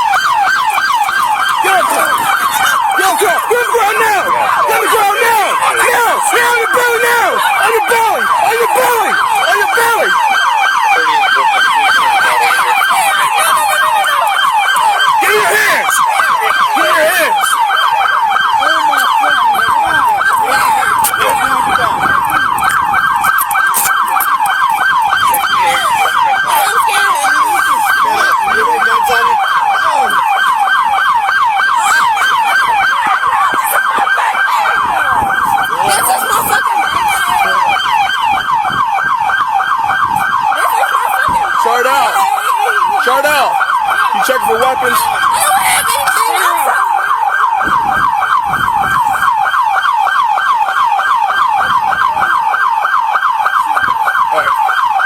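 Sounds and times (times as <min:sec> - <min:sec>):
police siren yelping: 0:00.0 - 0:55.0.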